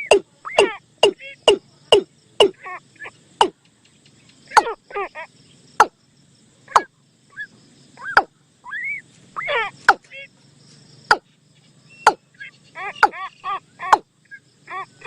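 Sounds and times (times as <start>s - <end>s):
recorded bird calls: 0.0s - 15.0s.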